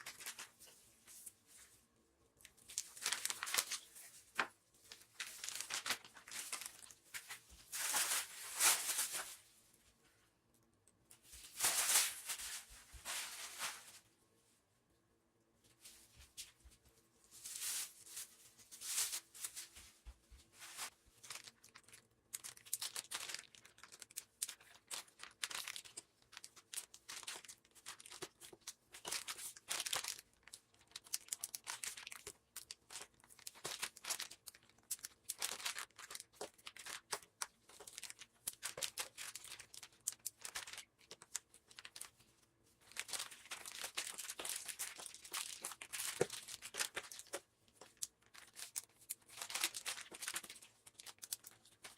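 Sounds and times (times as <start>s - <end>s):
plastic packaging crinkling: 0.0s - 0.7s, 2.4s - 9.4s, 11.4s - 14.0s, 17.4s - 19.8s, 20.6s - 51.9s.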